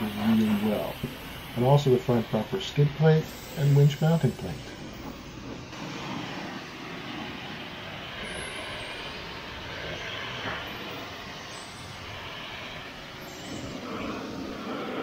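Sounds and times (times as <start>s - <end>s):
pressure washer spraying water: 0.0s - 15.0s.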